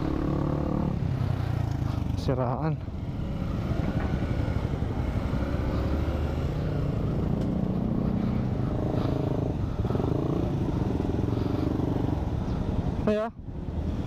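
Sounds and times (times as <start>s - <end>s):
motorcycle engine running: 0.0s - 14.0s
wind and road rumble: 0.0s - 14.0s.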